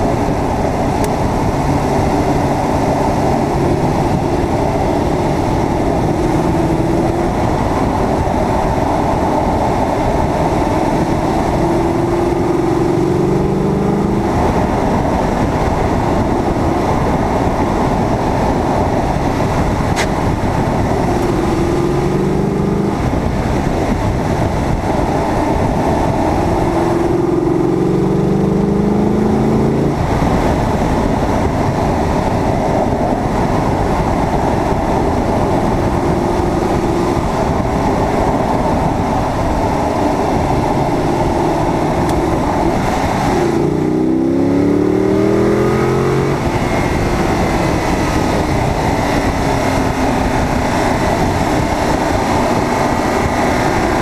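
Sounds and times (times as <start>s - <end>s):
car engine accelerating: 0.0s - 54.0s
heavy wind: 0.0s - 54.0s
road rumble: 0.0s - 54.0s.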